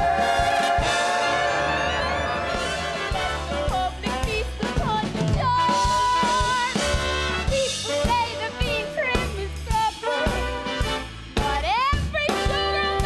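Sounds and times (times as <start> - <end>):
drum kit beat: 0.0 - 13.0
swing show music with brass: 0.0 - 13.0.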